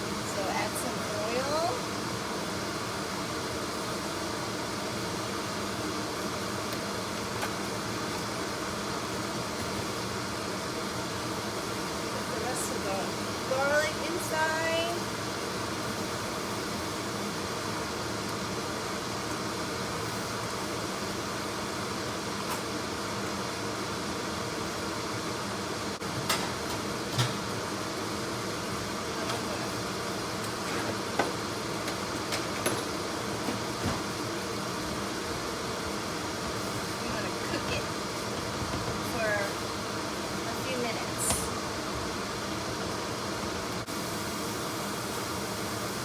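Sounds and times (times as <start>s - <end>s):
garlic sizzling in hot oil: 0.0s - 46.0s.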